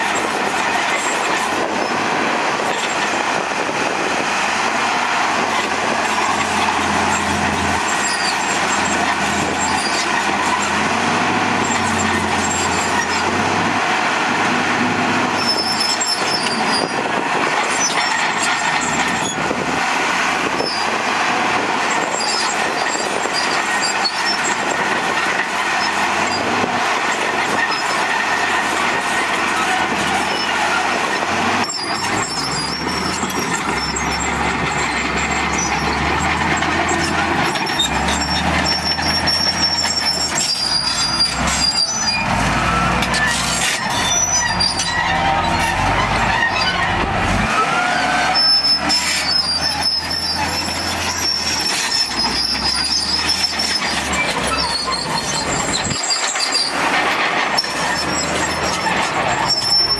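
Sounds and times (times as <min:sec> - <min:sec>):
bulldozer diesel engine running: 0:00.0 - 0:59.9
steel tracks clanking and squealing: 0:00.0 - 0:59.9.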